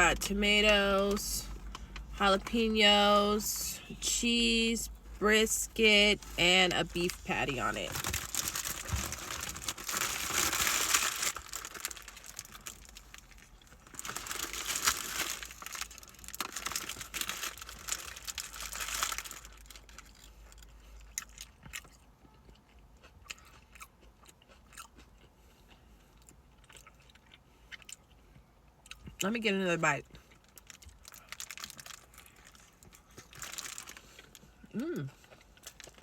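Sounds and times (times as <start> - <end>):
person chewing and crunching: 6.3 - 29.2, 30.1 - 36.0.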